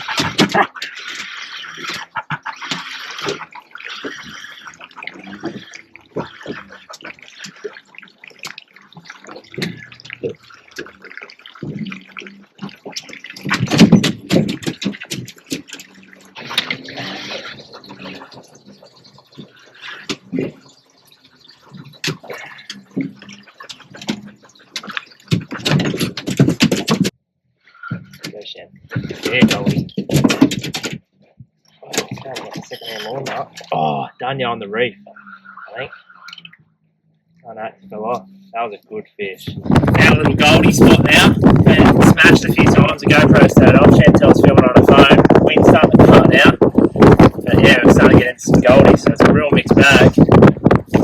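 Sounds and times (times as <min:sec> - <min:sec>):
water splashing and sloshing: 0:00.0 - 0:38.6, 0:39.5 - 0:51.0.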